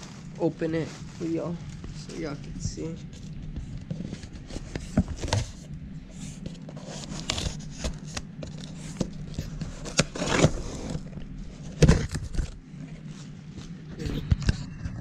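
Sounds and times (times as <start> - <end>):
cardboard and plastic rustling: 0.0 - 15.0.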